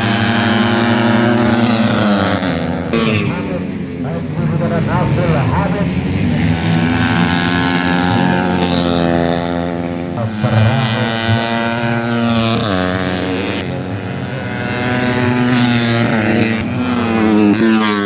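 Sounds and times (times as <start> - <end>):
motorcycles revving hard: 0.0 - 18.0.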